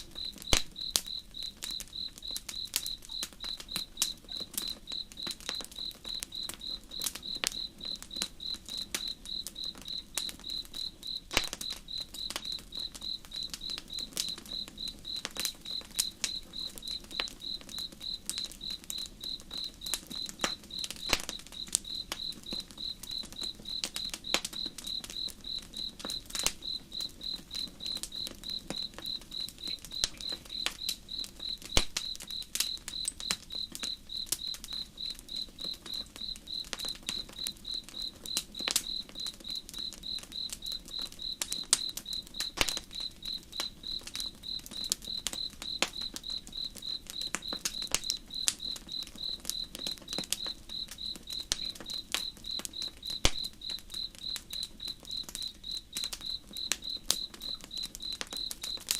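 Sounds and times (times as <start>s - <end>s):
campfire crackling: 0.0s - 58.9s
cricket chirping: 0.0s - 58.9s.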